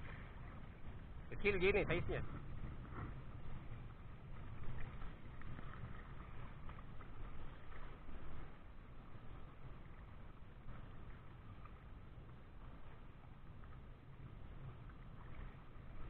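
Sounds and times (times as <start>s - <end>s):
water sloshing and lapping: 0.0s - 16.0s
wind rumble on microphone: 0.0s - 16.0s.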